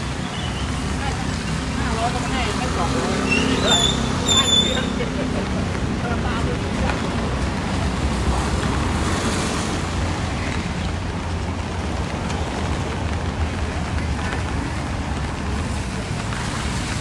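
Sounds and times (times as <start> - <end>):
street traffic rumble: 0.0 - 17.0
traffic hiss: 0.0 - 17.0.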